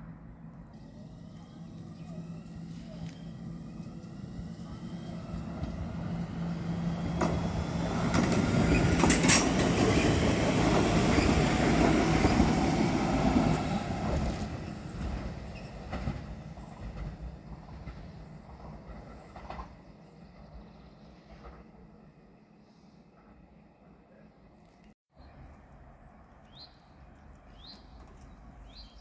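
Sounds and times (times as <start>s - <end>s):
train passing by: 0.0s - 24.6s.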